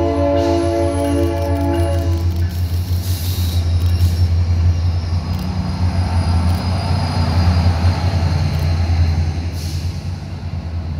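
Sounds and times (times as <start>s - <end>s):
rumbling rail noise: 0.0s - 10.9s
train rolling past: 0.0s - 10.9s.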